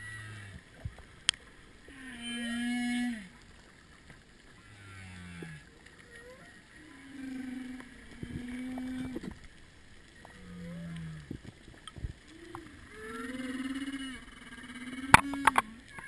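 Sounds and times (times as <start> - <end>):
whale song underwater: 0.0 - 16.0.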